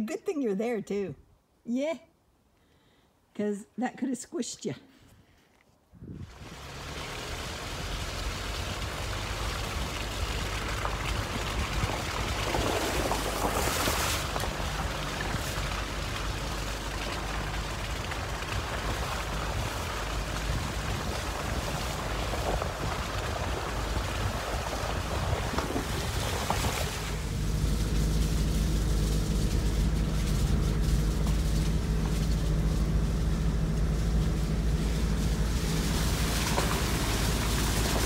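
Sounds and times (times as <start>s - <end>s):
truck engine and tyre rumble: 5.9s - 38.0s.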